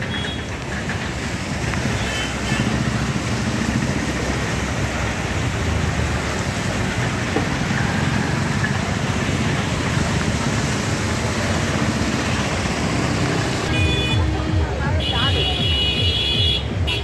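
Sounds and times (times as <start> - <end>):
heavy rain hissing: 0.0 - 16.7
traffic driving through floodwater: 0.0 - 17.0.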